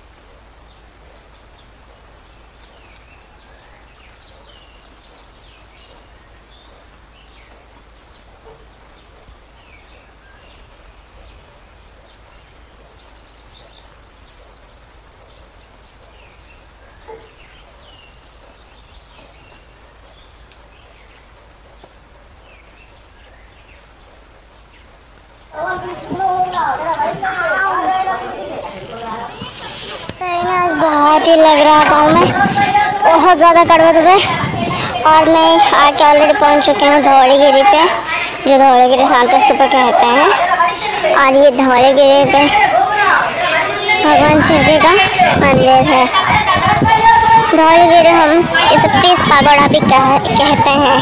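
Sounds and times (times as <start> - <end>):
steady hiss: 0.0 - 43.2.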